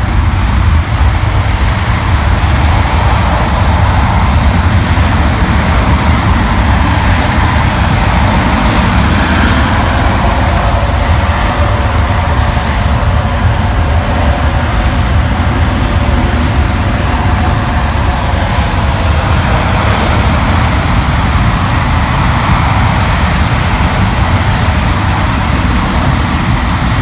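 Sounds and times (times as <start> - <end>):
rocket engine roaring: 0.0 - 27.0.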